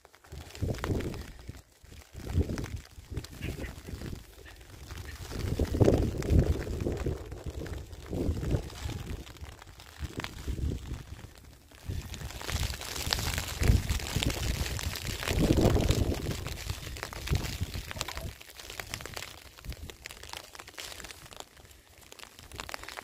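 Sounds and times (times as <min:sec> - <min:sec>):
footsteps crunching on stony dirt: 0:00.0 - 0:23.0.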